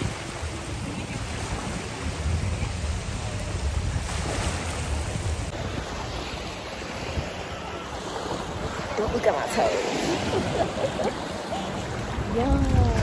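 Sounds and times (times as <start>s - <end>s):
small waves washing onto shore: 0.0s - 13.0s
wind rumbling on microphone: 0.0s - 13.0s.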